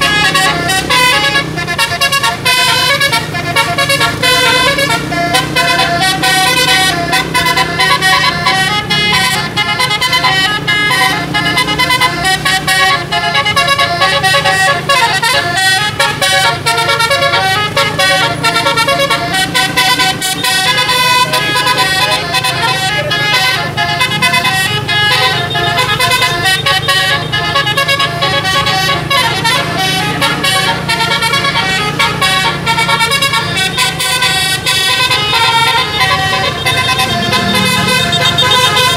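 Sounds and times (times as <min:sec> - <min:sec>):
bus engine humming: 0:00.0 - 0:38.9
musical air horn playing tunes: 0:00.0 - 0:38.9.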